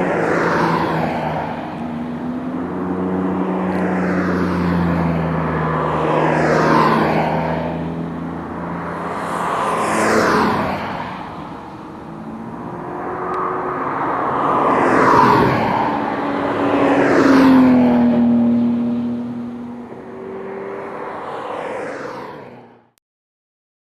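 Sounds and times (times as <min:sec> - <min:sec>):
cars driving past: 0:00.0 - 0:23.0.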